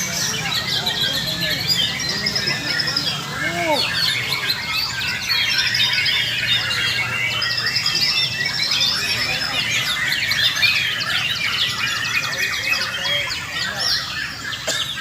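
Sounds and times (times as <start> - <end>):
songbirds singing in chorus: 0.0 - 15.0.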